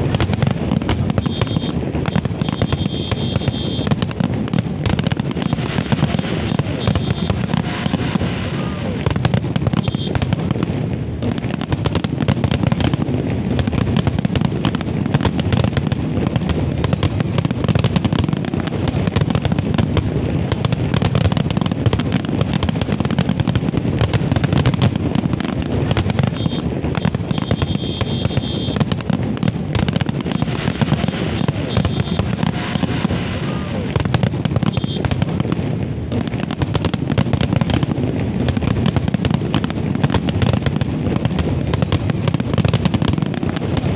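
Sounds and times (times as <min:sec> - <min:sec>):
fireworks bursts and crackle: 0:00.0 - 0:43.9.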